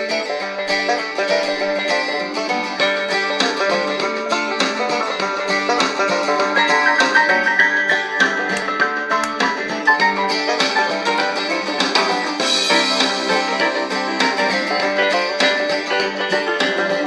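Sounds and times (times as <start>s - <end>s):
plucked string music on small radio: 0.0s - 17.0s.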